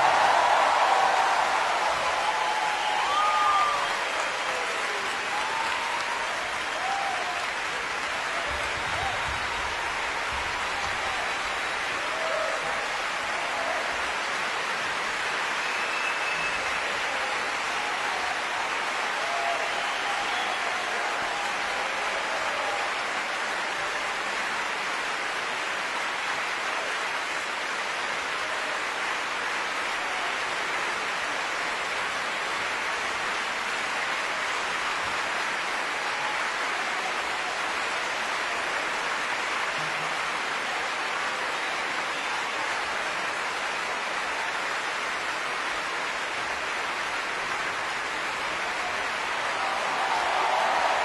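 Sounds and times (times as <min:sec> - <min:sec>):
audience applauding: 0:00.0 - 0:51.0.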